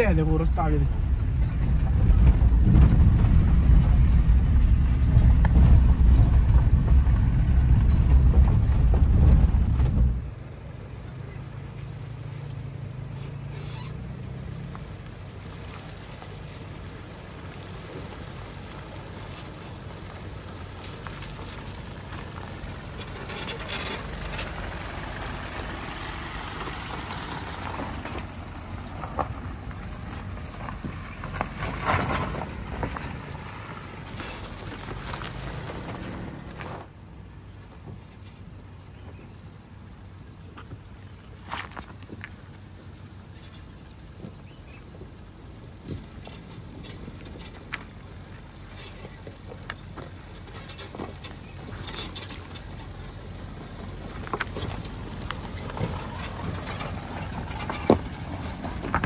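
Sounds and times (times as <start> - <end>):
vehicle engine and road rumble: 0.0 - 59.0.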